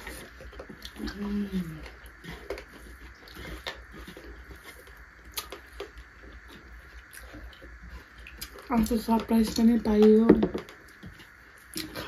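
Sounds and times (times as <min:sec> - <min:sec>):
chewing: 0:00.0 - 0:10.0, 0:10.6 - 0:12.0
fingers mixing rice on metal plates: 0:00.0 - 0:12.0
low steady hum: 0:00.0 - 0:12.0.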